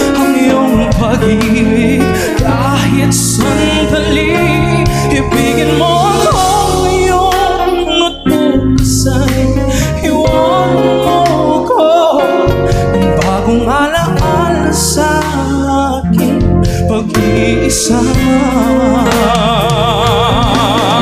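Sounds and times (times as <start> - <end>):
instrumental accompaniment: 0.0 - 21.0
man singing into microphone: 0.0 - 21.0.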